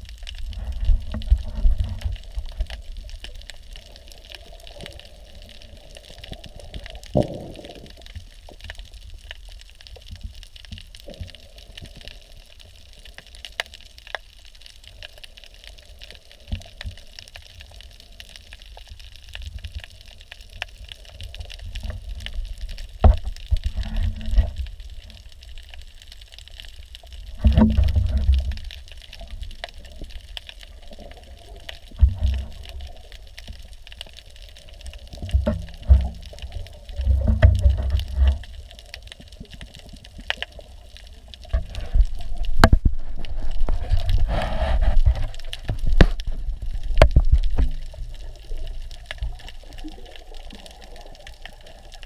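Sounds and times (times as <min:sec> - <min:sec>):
underwater rumble and hiss: 0:00.0 - 0:52.0.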